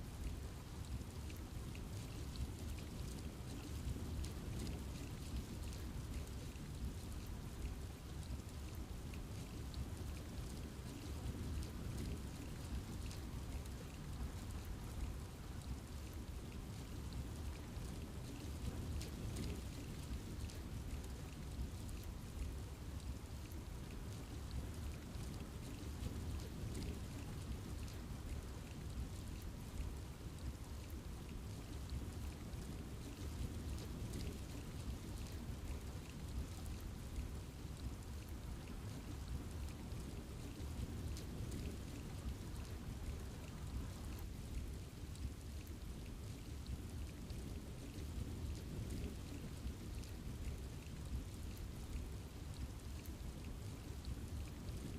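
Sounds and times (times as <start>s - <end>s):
low continuous rumble: 0.0s - 54.9s
rain falling in a forest: 0.0s - 54.9s.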